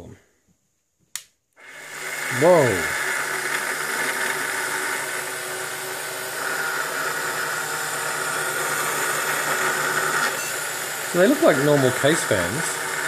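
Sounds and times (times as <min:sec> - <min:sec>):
cooling fans whirring: 0:02.3 - 0:13.0.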